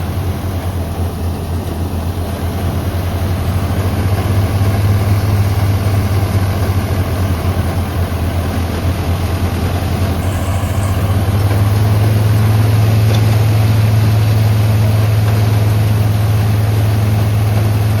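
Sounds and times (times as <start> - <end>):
tractor diesel engine droning: 0.0 - 18.0.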